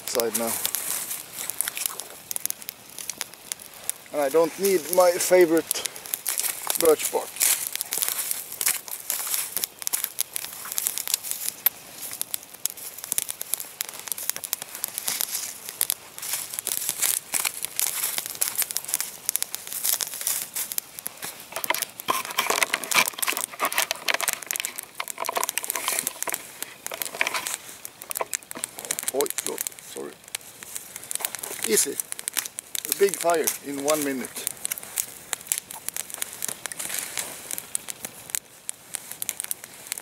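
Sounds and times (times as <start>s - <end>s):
campfire crackling: 0.0s - 40.0s
sticks rustling and knocking: 0.0s - 40.0s.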